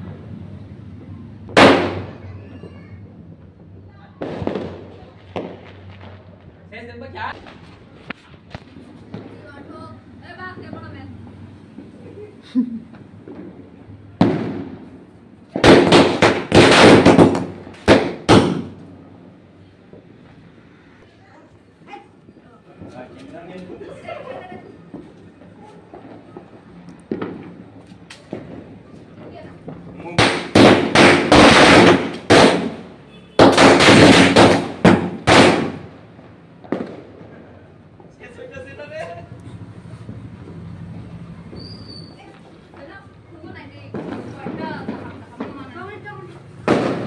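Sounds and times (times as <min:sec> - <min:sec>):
firecrackers banging and crackling: 0:00.0 - 0:47.0.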